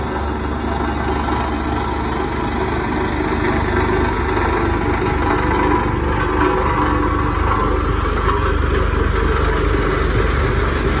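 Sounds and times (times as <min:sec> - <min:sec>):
road roller engine running: 0:00.0 - 0:11.0.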